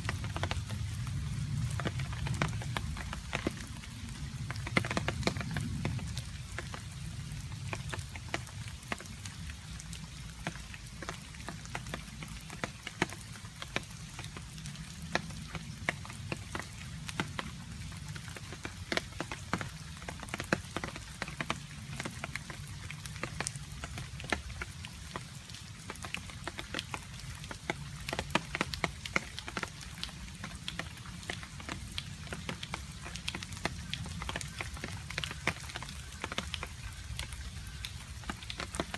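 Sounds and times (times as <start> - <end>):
rain rumble: 0.0 - 38.9.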